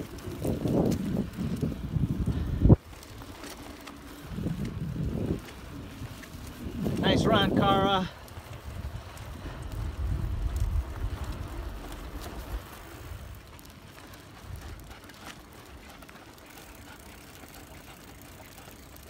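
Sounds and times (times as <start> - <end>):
bicycle rolling noise: 0.0 - 19.0
wind and ground buffeting: 0.0 - 19.0.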